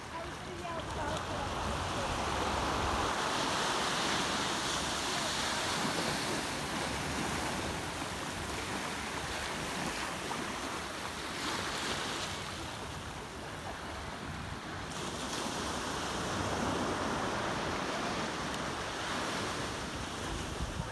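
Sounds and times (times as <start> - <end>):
waves washing over rocks: 0.0 - 20.9.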